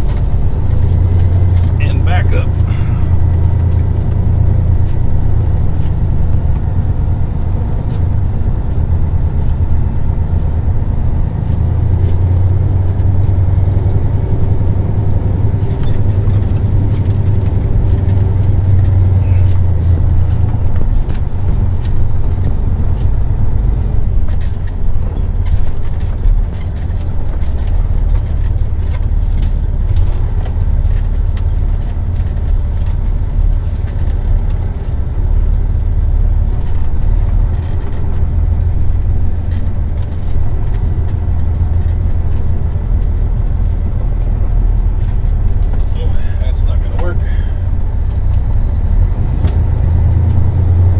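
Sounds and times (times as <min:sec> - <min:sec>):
diesel engine rumble: 0:00.0 - 0:50.9.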